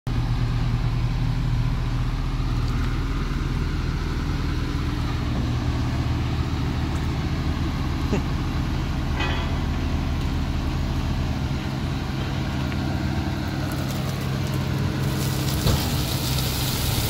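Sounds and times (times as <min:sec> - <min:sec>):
diesel truck engine idling: 0:00.1 - 0:17.0.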